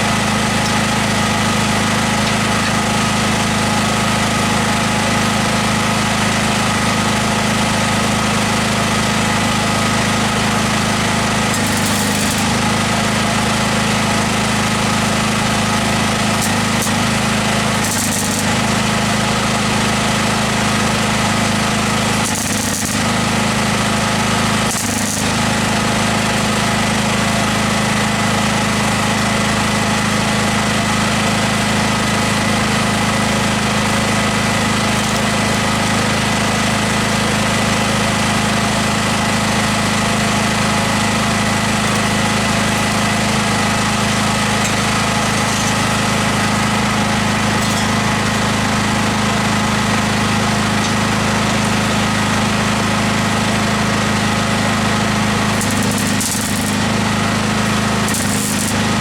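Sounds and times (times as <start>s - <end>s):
loud steady machine noise: 0.0s - 59.0s.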